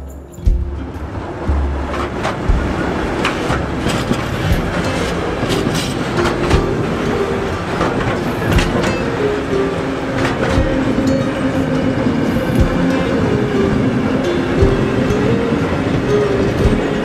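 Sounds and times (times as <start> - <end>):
freight train rolling past: 0.0 - 17.0
steady higher tone: 0.0 - 17.0
wheels clicking over rail joints: 0.0 - 17.0.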